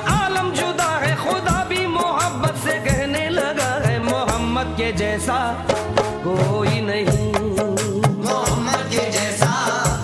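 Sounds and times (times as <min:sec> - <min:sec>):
ornamented melody over light beat: 0:00.0 - 0:10.0.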